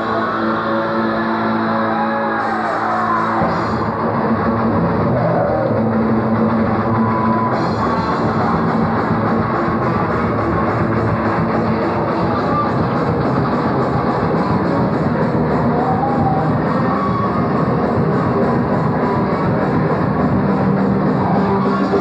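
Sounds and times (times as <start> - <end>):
distorted electric guitar: 0.0 - 22.0
drum kit: 0.0 - 22.0.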